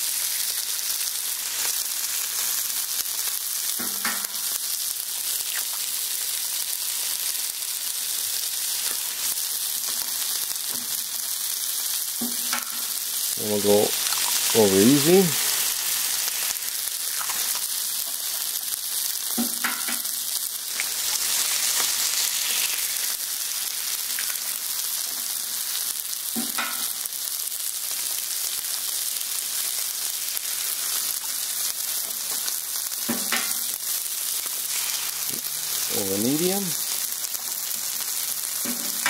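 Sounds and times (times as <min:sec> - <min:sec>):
eggs sizzling on griddle: 0:00.0 - 0:39.0.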